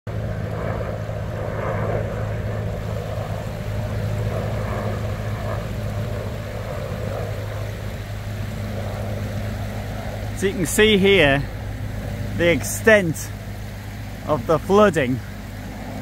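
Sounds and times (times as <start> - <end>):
engine drone: 0.0 - 16.0
rushing noise: 0.1 - 16.0.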